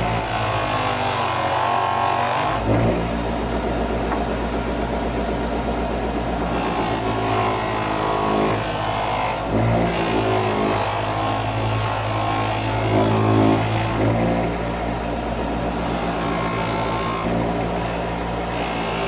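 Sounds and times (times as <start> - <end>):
polishing machine motor running: 0.0 - 19.0.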